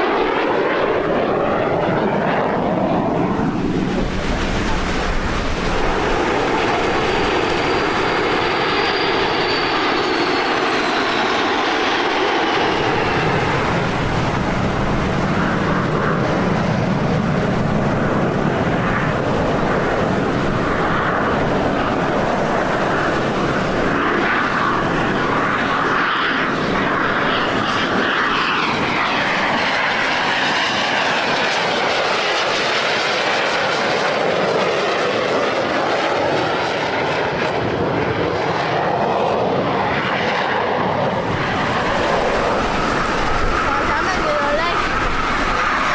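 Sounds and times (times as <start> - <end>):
jet aircraft flying past: 0.0 - 45.9.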